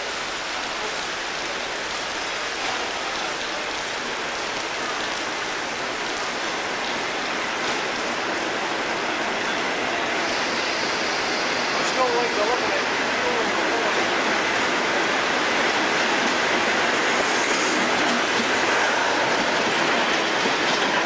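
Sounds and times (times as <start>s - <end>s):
diesel locomotive arriving: 0.0s - 21.0s.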